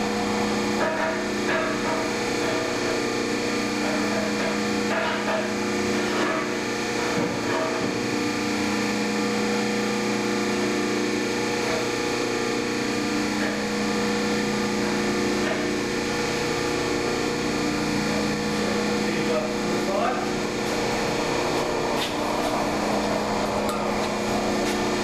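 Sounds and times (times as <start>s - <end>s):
electric motor and pump humming: 0.0s - 25.0s.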